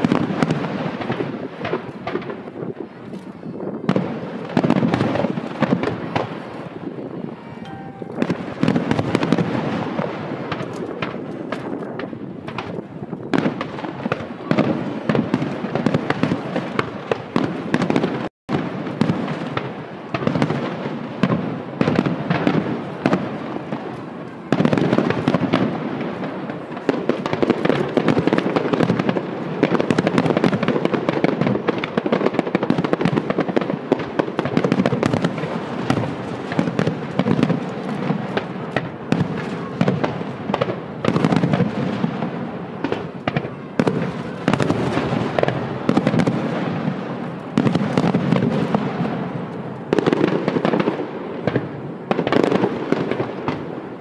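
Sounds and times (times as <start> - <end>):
fireworks bursting: 0.0 - 54.0
fireworks crackle: 0.0 - 54.0.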